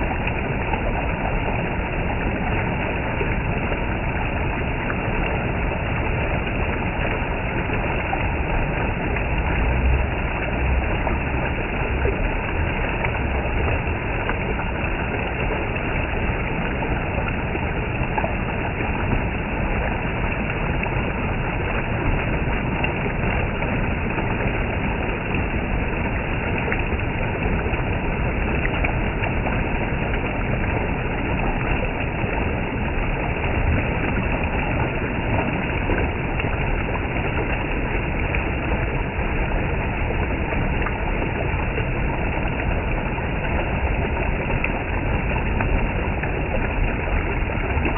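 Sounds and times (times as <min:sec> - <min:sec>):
water gushing: 0:00.0 - 0:47.9.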